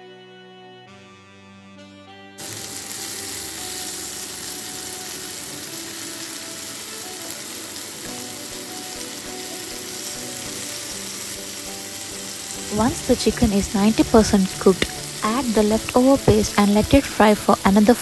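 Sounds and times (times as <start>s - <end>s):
chicken sizzling in a pan: 2.4s - 18.0s.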